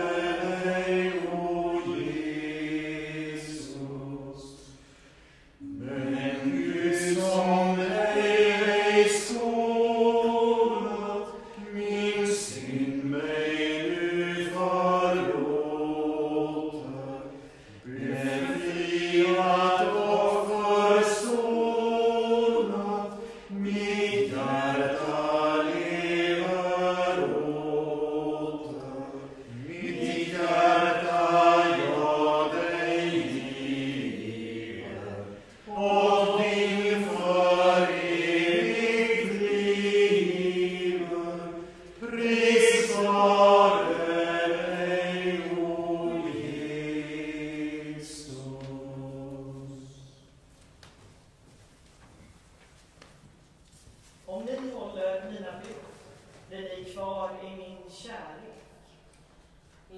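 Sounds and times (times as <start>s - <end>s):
hymn singing: 0.0s - 51.0s.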